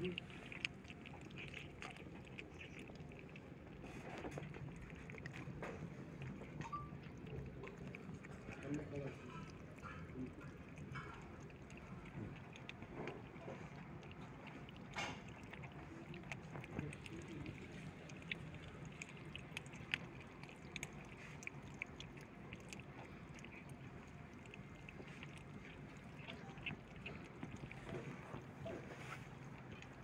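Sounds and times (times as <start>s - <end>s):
kittens chewing and smacking: 0.0s - 30.0s
small wet clicks: 0.0s - 30.0s.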